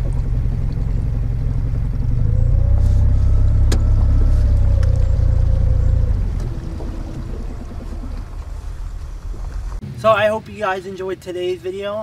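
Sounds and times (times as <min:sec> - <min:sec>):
outboard motor rumble: 0:00.0 - 0:09.8
faint whine: 0:00.0 - 0:11.6.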